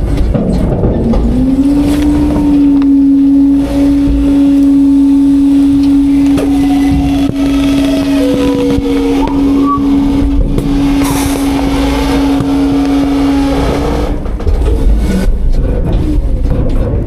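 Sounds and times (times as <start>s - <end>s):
hydraulic whine: 0.0s - 17.0s
knocks and clunks: 0.0s - 17.0s
low rumble: 0.0s - 17.0s
truck engine: 0.0s - 17.0s.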